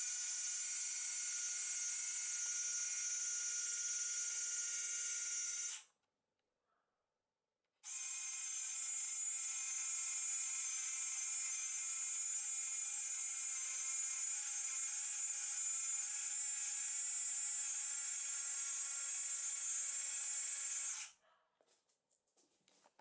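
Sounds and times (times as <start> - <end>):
small winch motor whirring: 0.0 - 5.9, 7.8 - 21.2.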